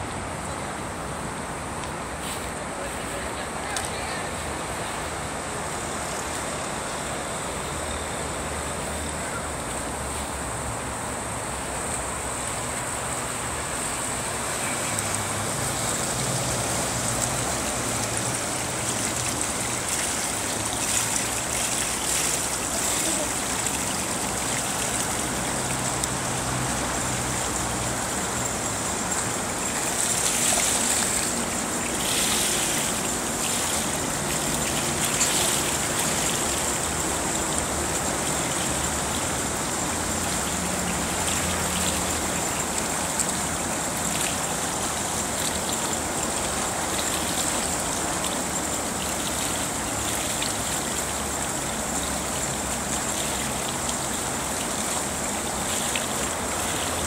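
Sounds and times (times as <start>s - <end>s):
pool water washing: 0.0s - 57.0s.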